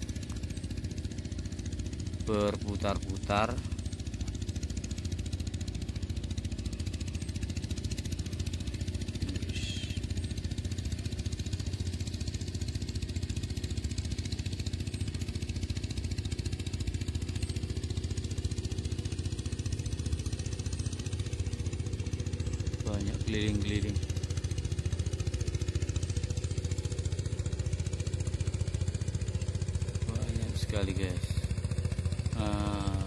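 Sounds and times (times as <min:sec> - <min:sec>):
small engine running steadily: 0:00.0 - 0:33.0.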